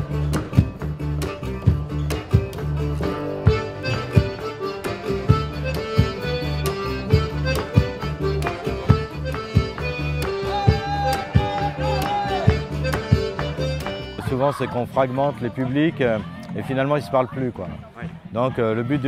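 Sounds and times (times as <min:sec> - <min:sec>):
folk dance band playing: 0:00.0 - 0:15.8.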